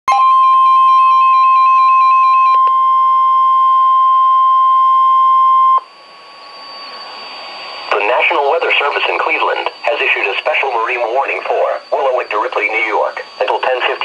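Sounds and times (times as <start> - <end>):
long steady alarm beep: 0.1 - 14.0.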